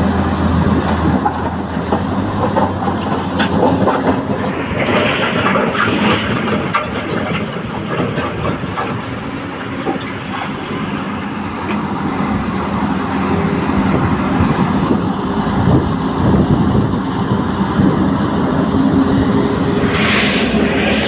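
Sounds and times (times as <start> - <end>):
backhoe diesel engine running: 0.0 - 21.0.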